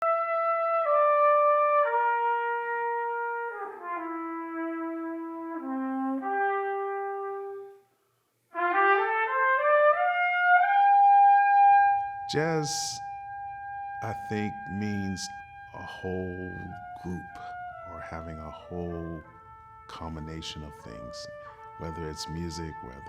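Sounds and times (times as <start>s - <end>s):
solo brass jazz melody: 0.0s - 7.9s, 8.5s - 23.0s.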